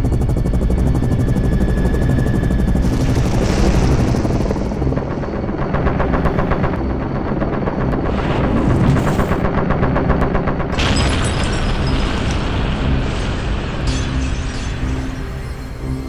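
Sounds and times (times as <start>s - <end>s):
helicopter drone: 0.0s - 16.0s.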